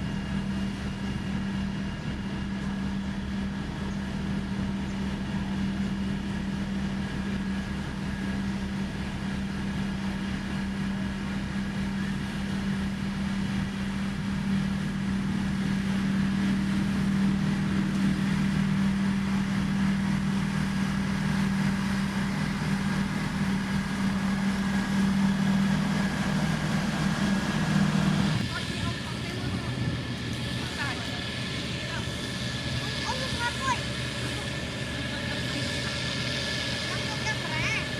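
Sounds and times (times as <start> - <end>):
heavy diesel engine droning: 0.0 - 37.9.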